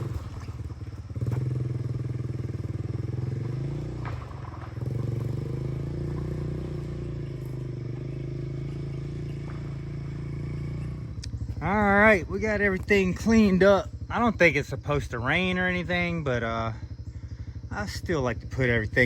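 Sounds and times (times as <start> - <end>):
engine pulsing hum: 0.0 - 19.0.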